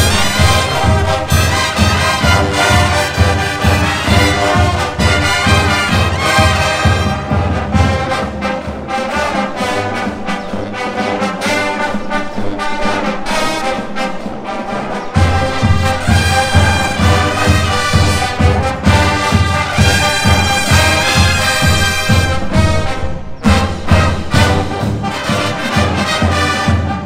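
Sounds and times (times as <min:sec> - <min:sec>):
brass section playing: 0:00.0 - 0:27.0
deep marching drum beat: 0:00.0 - 0:27.0.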